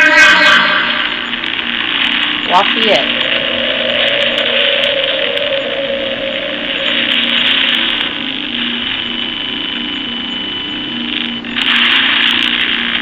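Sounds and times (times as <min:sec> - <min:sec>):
faint wavering hum: 0:00.0 - 0:13.0
loud steady static: 0:00.0 - 0:13.0
thin steady tone: 0:00.0 - 0:13.0.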